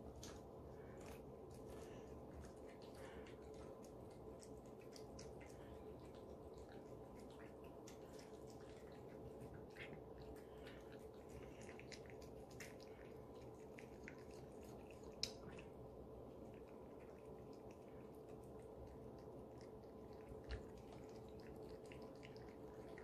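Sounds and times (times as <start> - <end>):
cats chewing and licking food: 0.0 - 23.0.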